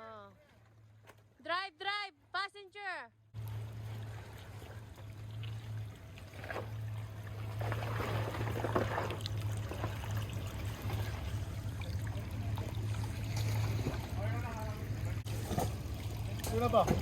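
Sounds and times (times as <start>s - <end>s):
off-road vehicle engine humming: 3.4s - 17.0s.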